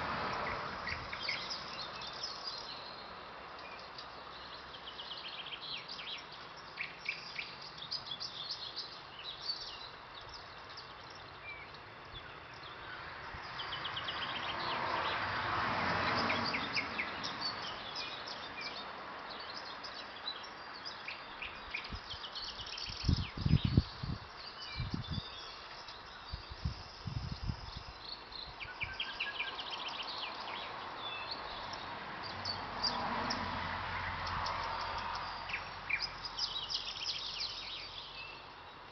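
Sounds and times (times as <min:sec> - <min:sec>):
bird singing with trills: 0:00.4 - 0:13.0, 0:16.2 - 0:33.4, 0:34.2 - 0:38.8.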